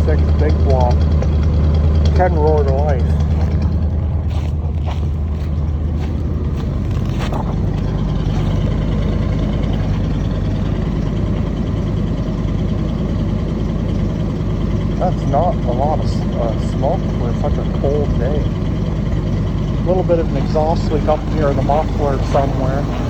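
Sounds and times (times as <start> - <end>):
engine idling low rumble: 0.0 - 23.0.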